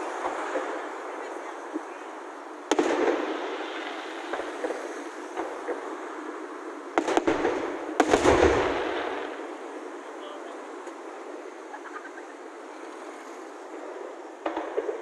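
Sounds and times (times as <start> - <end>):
firework shells bursting: 2.6 - 15.0.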